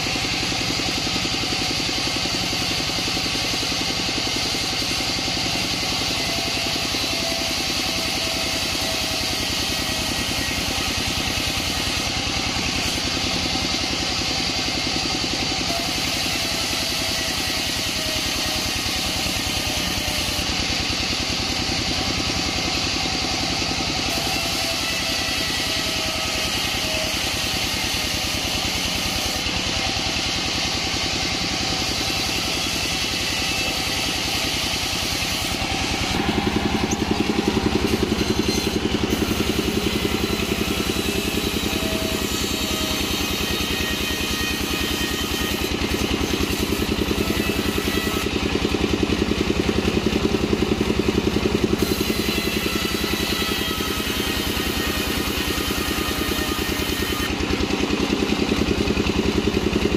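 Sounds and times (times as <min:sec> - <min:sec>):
band sawmill cutting plank: 0:00.0 - 0:59.9.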